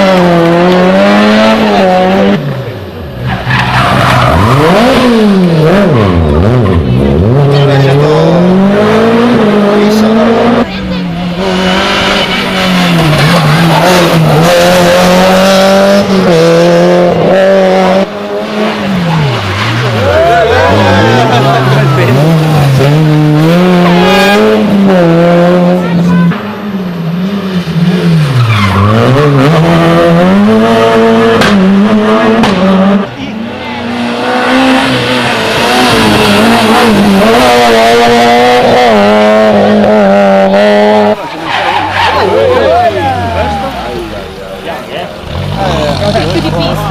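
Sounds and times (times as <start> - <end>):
rally car engine at high revs: 0.0 - 46.9.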